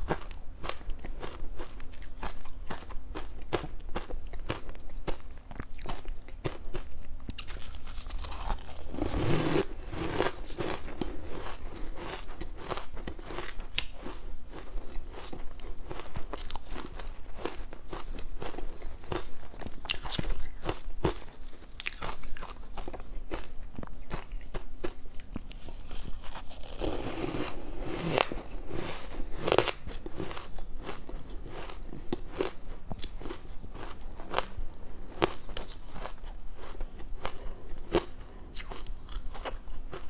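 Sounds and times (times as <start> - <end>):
crunching and chewing ice: 0.0 - 40.0.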